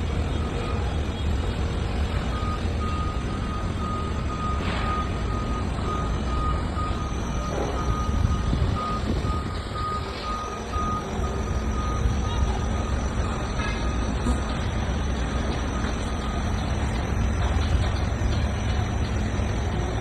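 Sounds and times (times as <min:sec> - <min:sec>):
diesel engine rumble: 0:00.0 - 0:20.0
reversing alarm beeping: 0:00.0 - 0:20.0.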